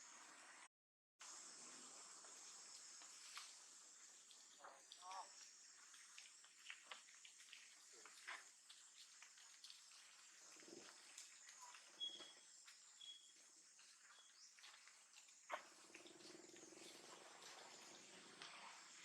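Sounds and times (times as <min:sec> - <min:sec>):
high insect drone: 0:01.2 - 0:19.0.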